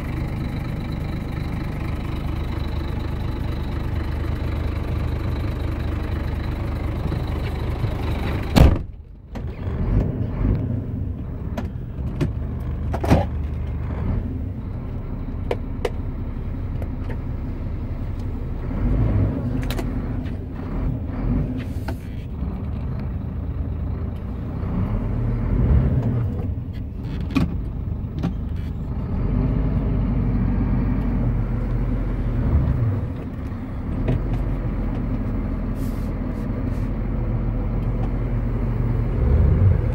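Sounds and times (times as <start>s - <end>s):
diesel truck engine from cab: 0.0s - 39.9s.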